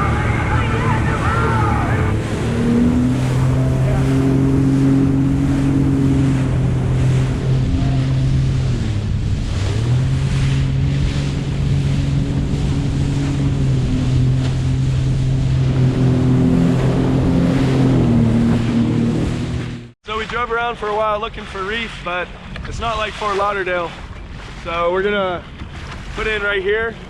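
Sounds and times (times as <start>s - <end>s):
jet ski engine running: 0.0s - 27.0s
rushing water and wind: 0.0s - 27.0s.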